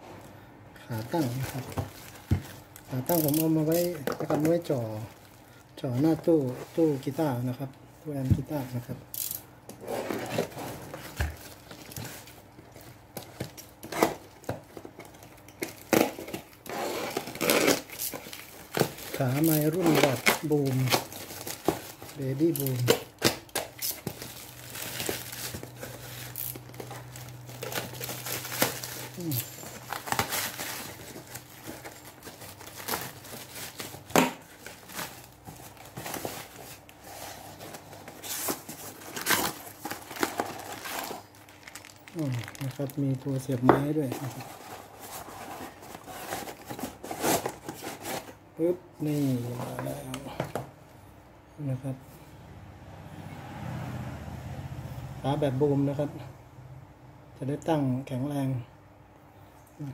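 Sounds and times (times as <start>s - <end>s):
plastic wrap rustling and crinkling: 0.9s - 9.1s, 9.8s - 48.4s, 49.0s - 50.7s.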